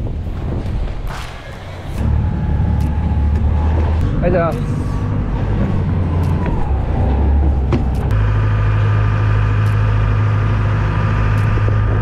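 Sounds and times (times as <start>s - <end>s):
boat engine running: 2.0s - 12.0s.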